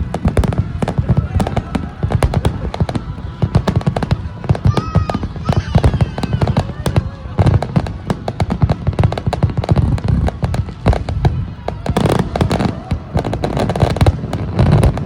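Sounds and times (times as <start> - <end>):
fireworks crackling bangs: 0.0 - 15.0
fireworks deep booms: 0.0 - 15.0.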